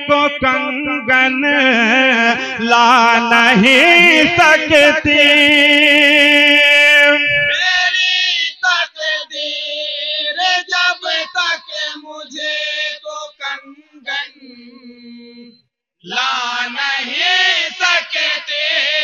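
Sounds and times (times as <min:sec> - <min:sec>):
men chanting through microphone: 0:01.6 - 0:19.0.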